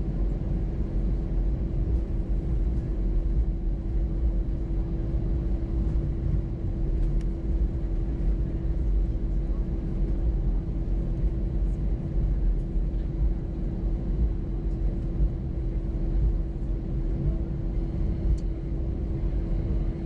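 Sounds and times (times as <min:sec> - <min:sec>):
airliner taxiing rumble: 0:00.0 - 0:20.0
constant cabin hum: 0:00.0 - 0:20.0.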